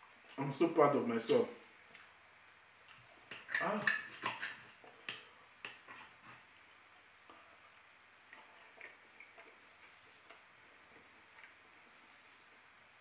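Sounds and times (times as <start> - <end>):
soft chewing: 1.2 - 13.0.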